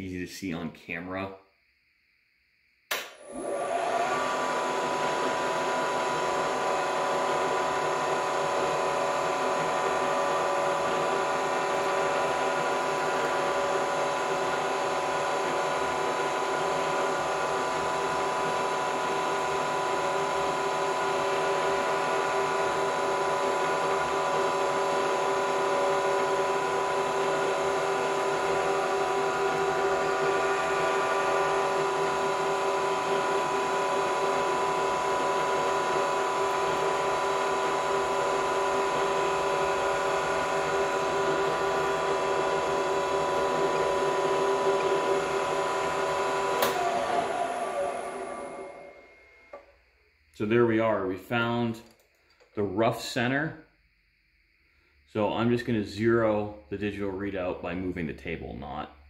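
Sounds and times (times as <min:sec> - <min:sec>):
milling machine whine: 0:03.0 - 0:51.8.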